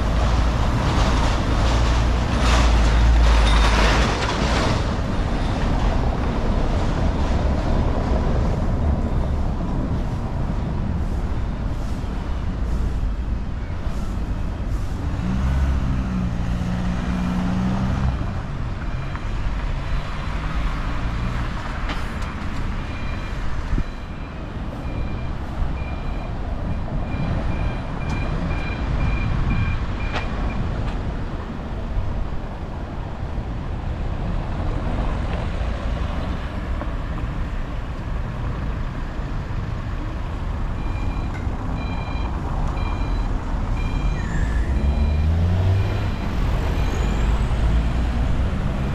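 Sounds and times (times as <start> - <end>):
passing cars: 0.0 - 48.9.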